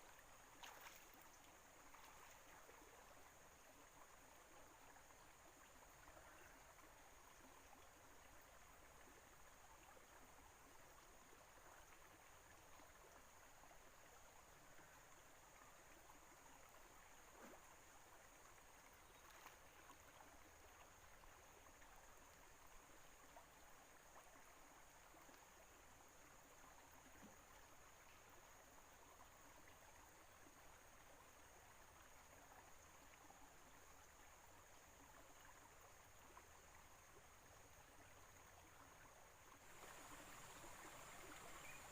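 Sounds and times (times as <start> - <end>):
faint background hiss: 0.0 - 41.9.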